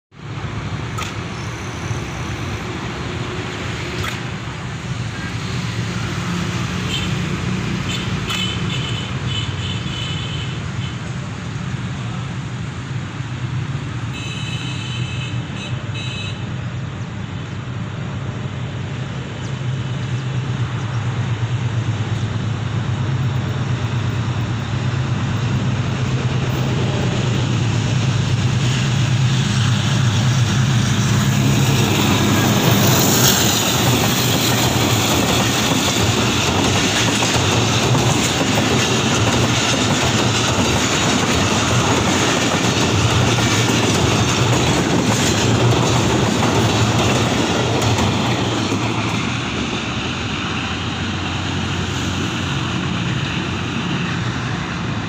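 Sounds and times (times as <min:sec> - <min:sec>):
locomotive engine drone: 0:00.1 - 0:14.7, 0:15.4 - 0:55.0.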